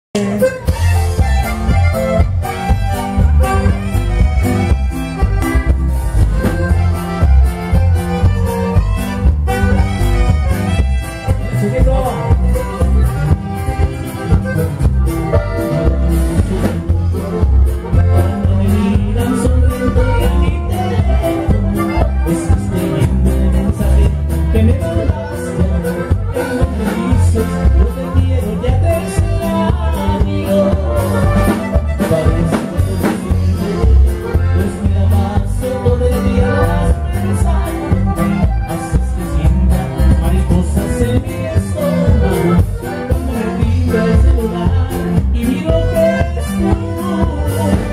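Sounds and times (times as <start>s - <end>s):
man singing: 0.1s - 2.8s, 10.5s - 47.9s
bass and drums: 0.2s - 47.9s
live band playing through speakers: 0.2s - 47.9s
strummed guitar: 0.2s - 47.9s.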